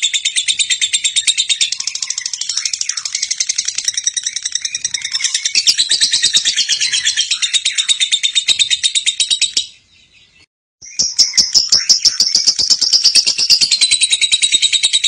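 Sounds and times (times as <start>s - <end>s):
lovebird harsh chirping chatter: 0.0s - 9.8s, 10.8s - 15.0s.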